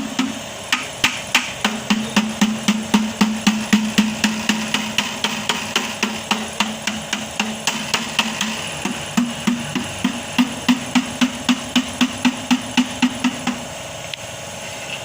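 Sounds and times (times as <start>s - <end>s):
hammer tapping on metal: 0.2s - 13.6s.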